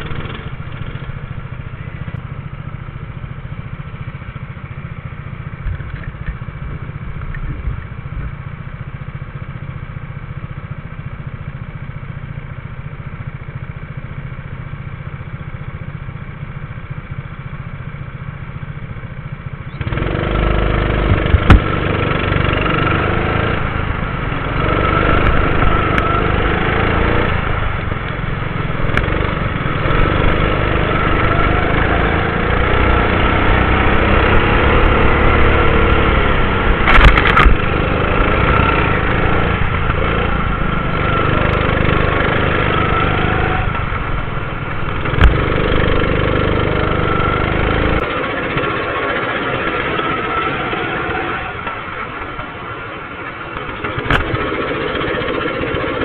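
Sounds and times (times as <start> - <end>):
go-kart engines idling: 0.0 - 56.0
kart engine revving under acceleration: 0.0 - 56.0.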